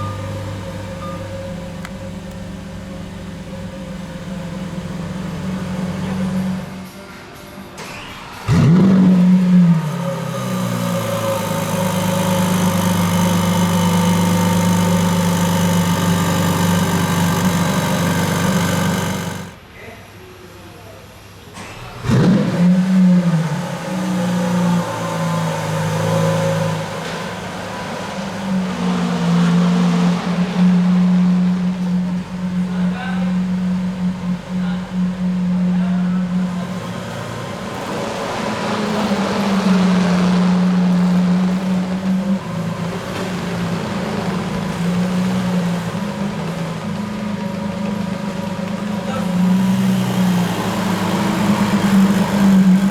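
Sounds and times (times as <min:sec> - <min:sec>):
car engine running loud: 0:00.0 - 0:06.9, 0:07.8 - 0:19.6, 0:22.0 - 0:52.9.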